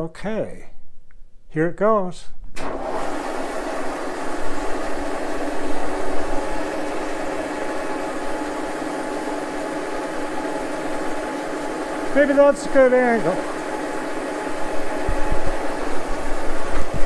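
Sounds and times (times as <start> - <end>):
milling machine humming: 2.6 - 17.0.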